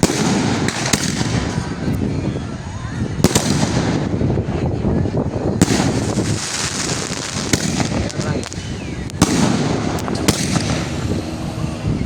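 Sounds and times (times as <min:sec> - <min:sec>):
fireworks bangs: 0:00.0 - 0:02.4, 0:03.0 - 0:12.0.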